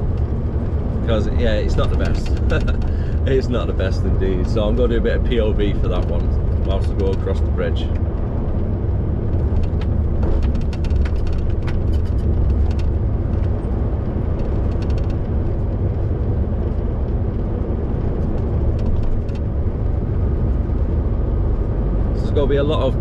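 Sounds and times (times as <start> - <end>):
lorry engine and tyre drone: 0.0 - 23.0.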